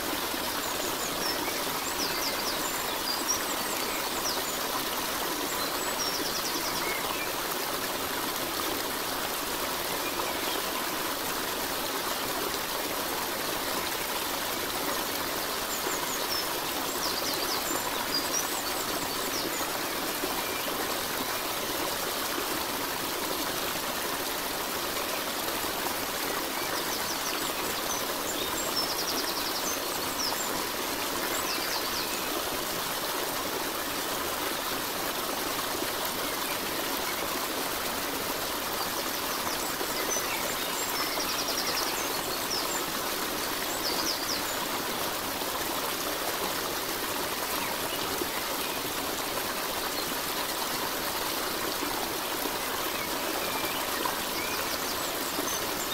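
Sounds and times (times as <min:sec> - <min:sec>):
stream water running: 0:00.0 - 0:55.9.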